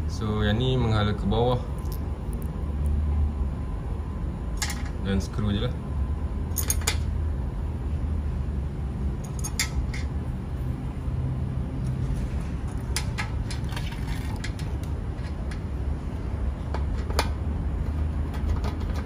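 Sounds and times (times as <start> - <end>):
steady low rumble: 0.0 - 18.8.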